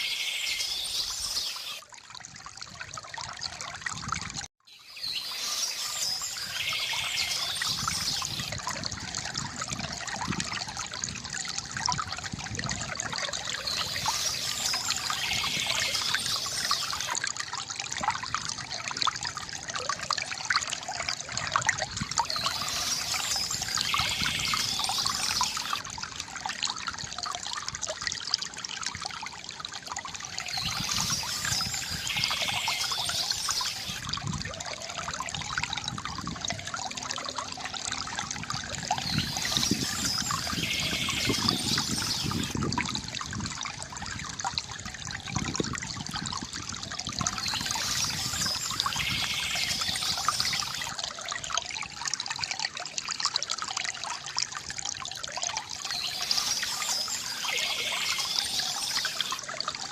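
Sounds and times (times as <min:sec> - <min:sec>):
water trickling from fountain: 0:00.0 - 0:59.9.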